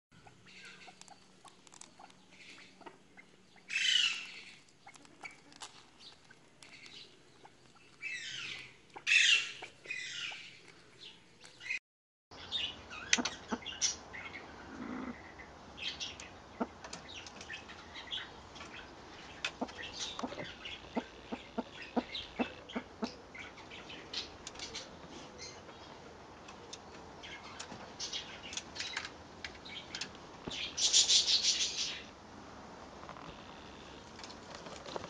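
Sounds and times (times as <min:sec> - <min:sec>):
birds calling and chirping: 0:00.2 - 0:11.8, 0:12.4 - 0:32.2.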